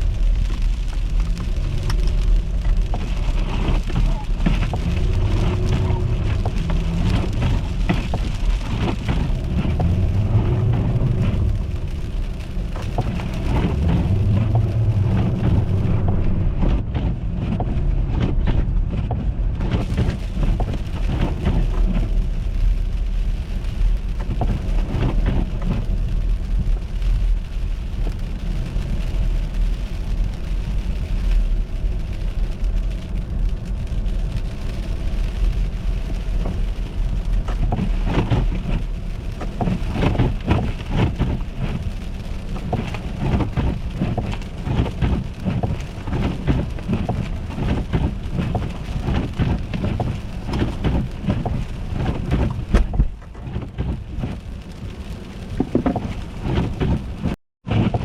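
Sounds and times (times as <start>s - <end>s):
car road noise rumble: 0.0s - 58.0s
tyres crackling over ice and slush: 0.0s - 58.0s.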